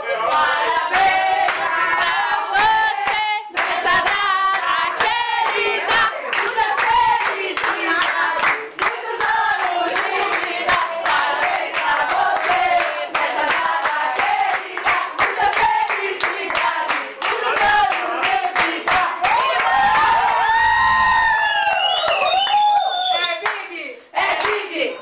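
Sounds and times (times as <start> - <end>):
group singing: 0.0 - 20.3, 23.5 - 25.0
hands clapping in rhythm: 0.1 - 24.9.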